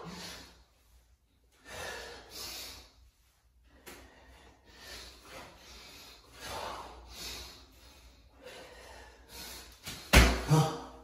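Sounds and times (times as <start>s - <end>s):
man breathing hard: 0.0s - 11.0s.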